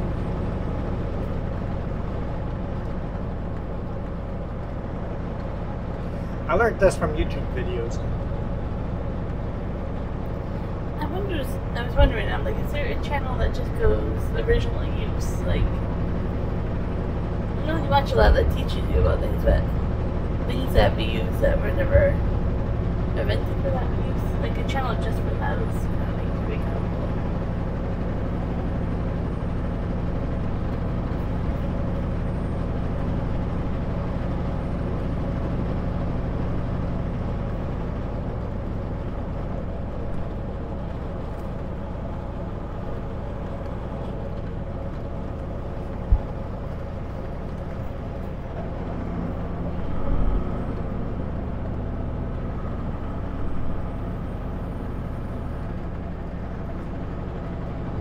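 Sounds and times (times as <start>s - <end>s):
road noise: 0.0s - 58.0s
truck engine droning: 0.0s - 58.0s.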